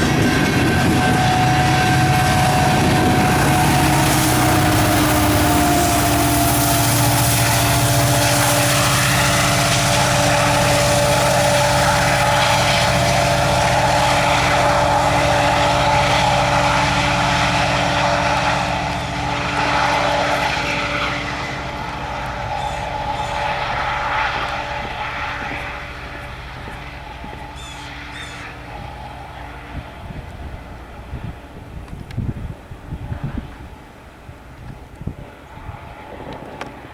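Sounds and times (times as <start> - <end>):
locomotive engine drone: 0.0 - 36.9
train wheels on rails: 0.0 - 36.9.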